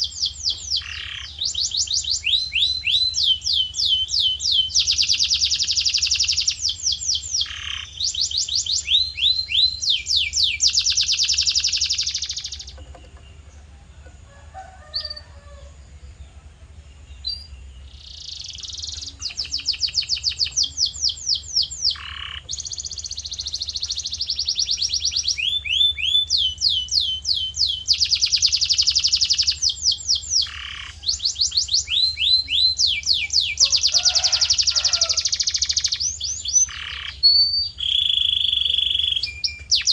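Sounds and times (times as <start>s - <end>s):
canary singing high trills: 0.0s - 13.4s, 17.2s - 39.9s.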